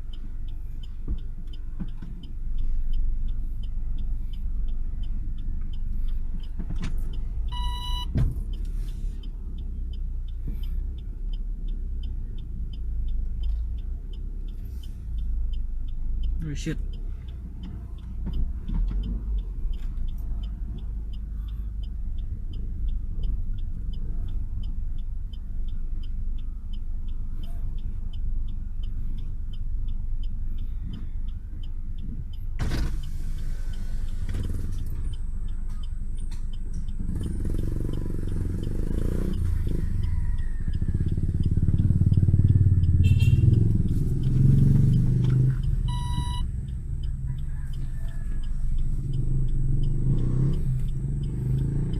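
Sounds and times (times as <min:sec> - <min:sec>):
car engine: 0:00.0 - 0:51.9
faint regular ticking: 0:00.0 - 0:51.9
road rumble: 0:00.0 - 0:51.9.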